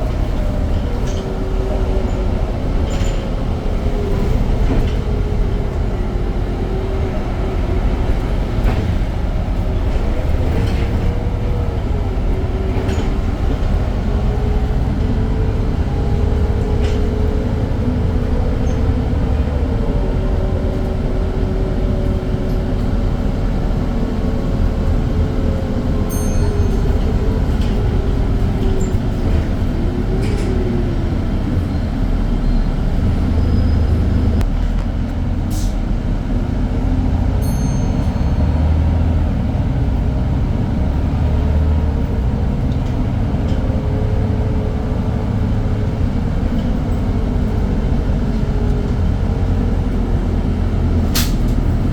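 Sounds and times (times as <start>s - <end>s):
bus engine rumble: 0.0s - 51.9s
bus engine whine: 0.0s - 51.9s.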